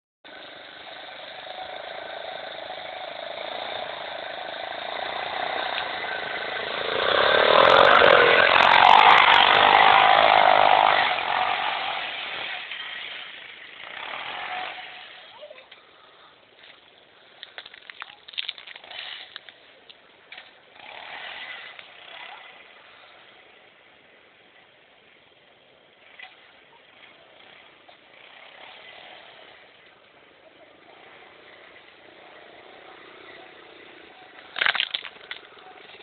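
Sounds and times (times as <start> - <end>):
buggy engine running hard: 0.3 - 36.0.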